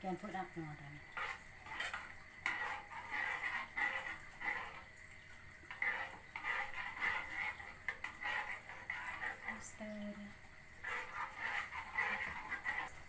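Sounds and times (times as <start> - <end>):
spoon stirring in a saucepan: 0.0 - 13.0.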